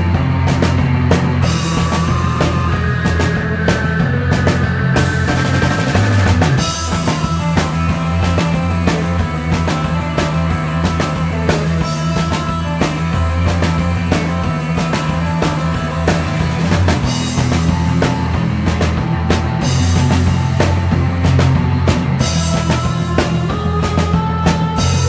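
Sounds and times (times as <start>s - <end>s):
rock music: 0.0s - 25.0s.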